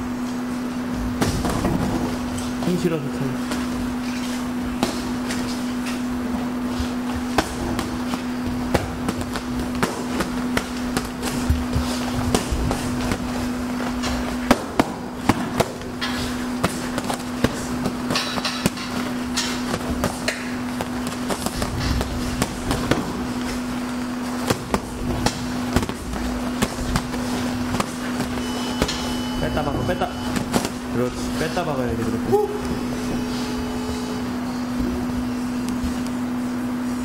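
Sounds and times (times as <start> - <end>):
steady low hum: 0.0 - 37.0
boxing gloves thudding: 1.1 - 2.6, 3.4 - 31.8.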